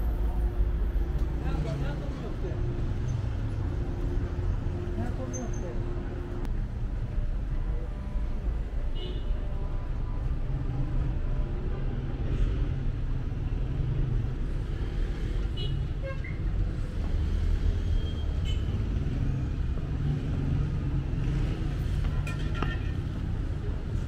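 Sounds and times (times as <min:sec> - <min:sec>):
cars passing rumble: 0:00.0 - 0:08.8, 0:09.7 - 0:24.0.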